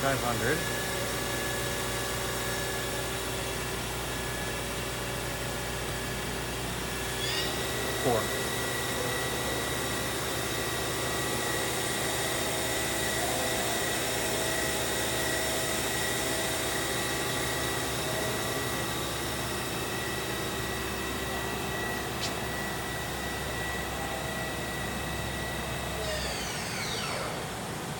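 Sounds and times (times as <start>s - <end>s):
hum of motors and fans: 0.0s - 27.9s
machine high whine: 0.0s - 27.9s.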